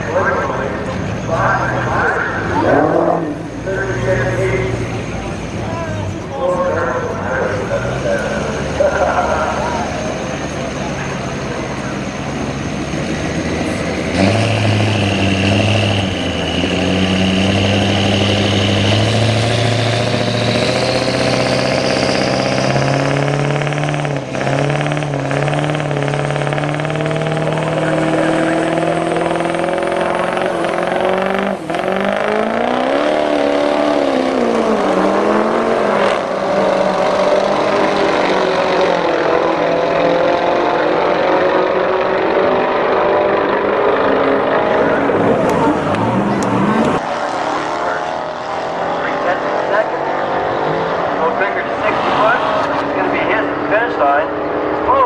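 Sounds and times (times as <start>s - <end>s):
engines revving: 0.0s - 55.0s
vehicles accelerating and shifting gears: 0.0s - 55.0s.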